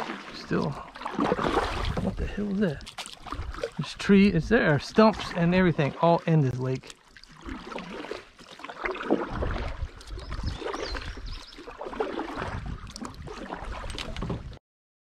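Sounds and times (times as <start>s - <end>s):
kayak paddle splashing in water: 0.0s - 14.6s.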